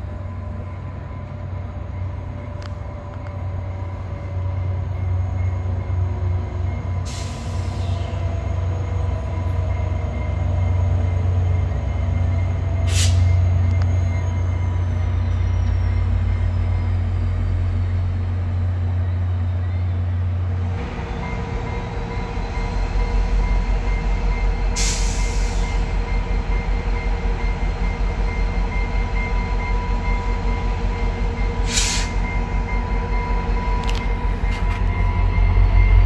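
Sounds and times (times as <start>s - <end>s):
diesel locomotive engine rumbling: 0.0s - 36.0s.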